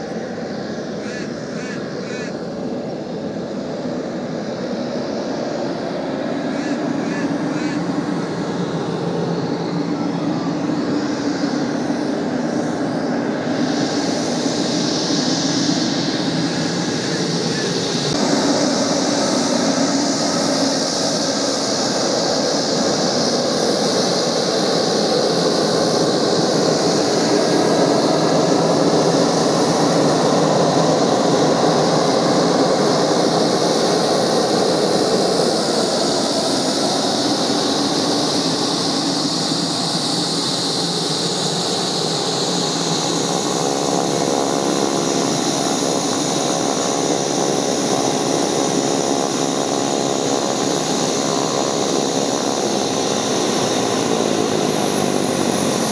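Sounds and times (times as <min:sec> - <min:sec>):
turboprop engine and propeller: 0:00.0 - 0:55.9.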